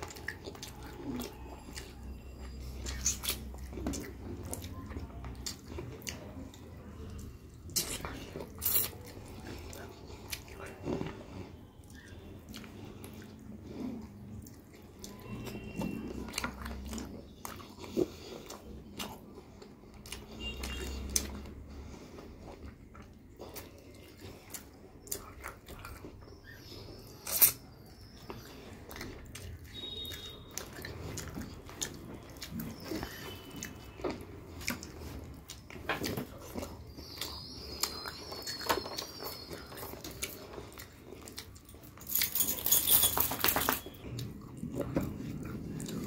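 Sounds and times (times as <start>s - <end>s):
crunching food: 0.0s - 21.5s, 22.4s - 46.0s
chewing food: 0.0s - 46.0s.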